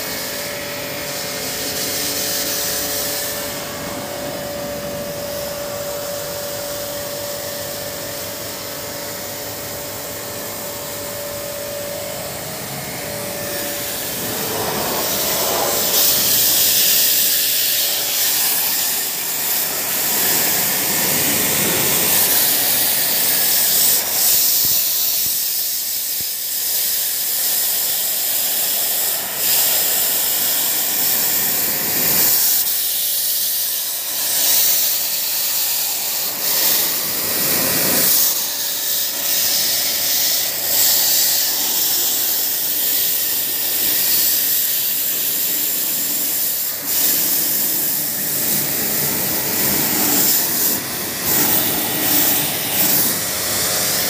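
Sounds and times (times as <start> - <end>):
pressure washer jet hissing: 0.0 - 54.0.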